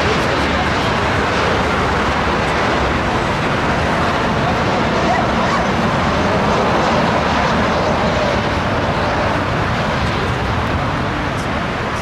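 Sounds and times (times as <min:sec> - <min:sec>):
airliner jet engines rushing: 0:00.0 - 0:12.0.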